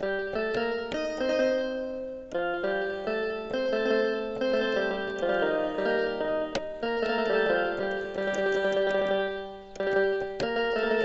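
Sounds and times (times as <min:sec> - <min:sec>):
electronic keyboard banjo melody: 0:00.0 - 0:11.0.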